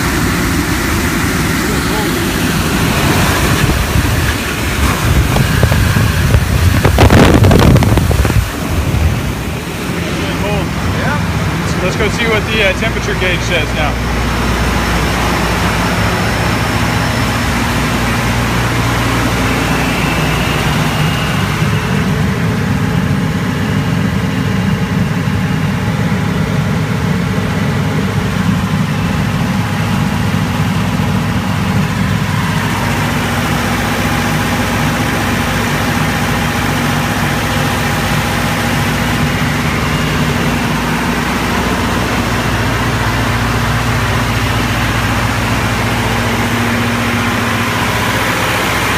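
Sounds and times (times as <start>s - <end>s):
hiss of air and fans: 0.0s - 48.9s
low machine drone: 0.0s - 48.9s.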